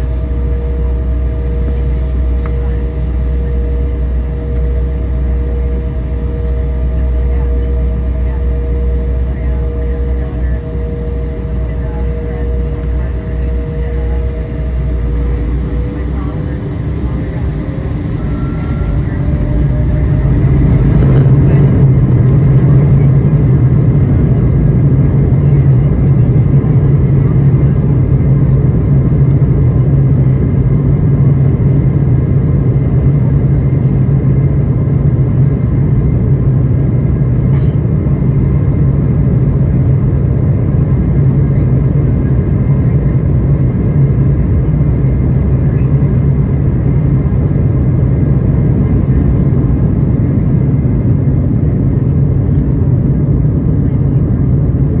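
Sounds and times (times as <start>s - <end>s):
jet engines spooling up and droning: 0.0s - 55.0s.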